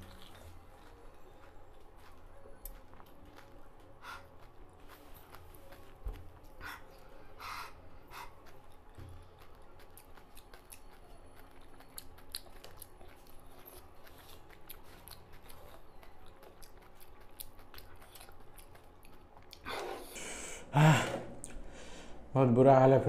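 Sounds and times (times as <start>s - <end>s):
crunchy chewing: 0.0s - 7.0s, 8.1s - 19.7s.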